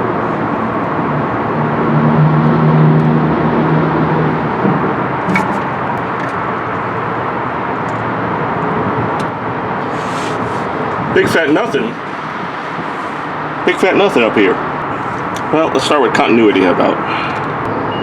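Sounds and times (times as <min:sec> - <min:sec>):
passing vehicle engine drone: 0:00.0 - 0:18.0
traffic rumble: 0:00.0 - 0:18.0.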